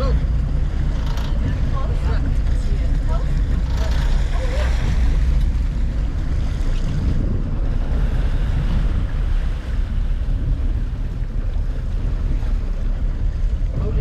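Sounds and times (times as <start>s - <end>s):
water noise: 0.0s - 14.0s
wind rumble on microphone: 0.0s - 14.0s.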